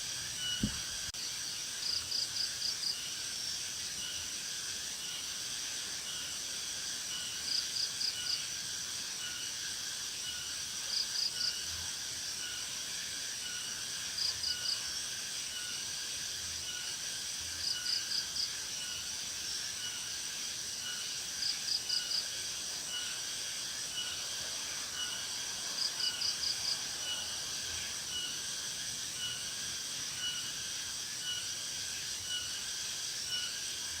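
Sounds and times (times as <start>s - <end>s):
insect chirping in pulses: 0.0s - 34.0s
insect high drone: 0.0s - 34.0s.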